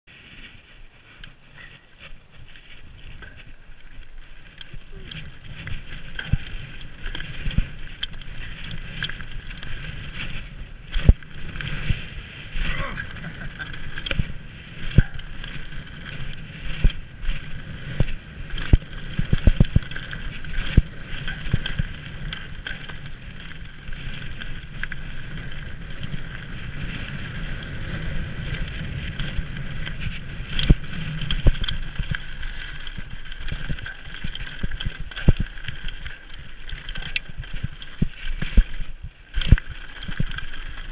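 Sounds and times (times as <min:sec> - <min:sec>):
bike rattling and clattering: 0:00.1 - 0:40.9
tyres crunching over stones: 0:01.1 - 0:40.9
wind buffeting microphone: 0:01.3 - 0:40.9.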